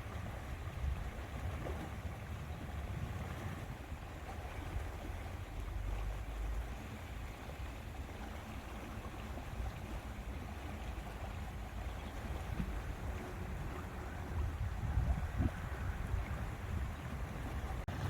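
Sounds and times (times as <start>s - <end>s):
small waves on lake: 0.0s - 18.0s
wind rumbling on microphone: 0.0s - 18.0s.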